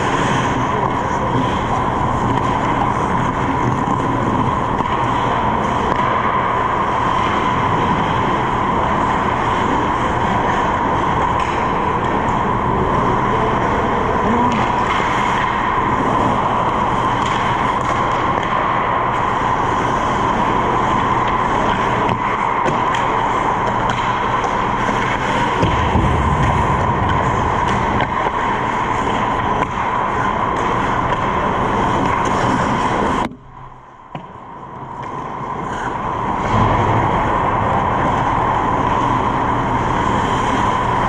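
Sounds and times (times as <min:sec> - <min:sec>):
ice rink hum and hiss: 0:00.0 - 0:41.0.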